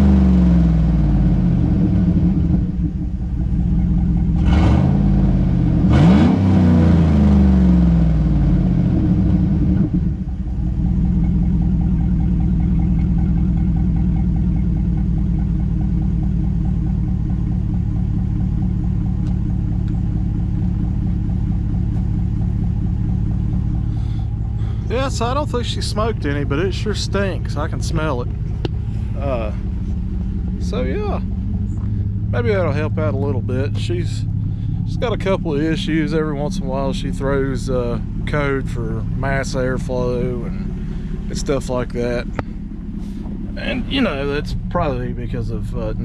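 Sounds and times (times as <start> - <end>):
pickup engine revving and idling: 0.0 - 46.0.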